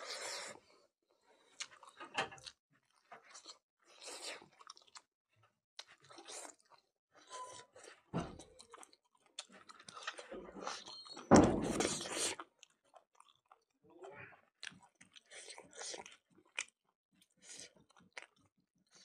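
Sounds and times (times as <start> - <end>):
man chewing food: 0.0 - 5.1, 5.8 - 19.0.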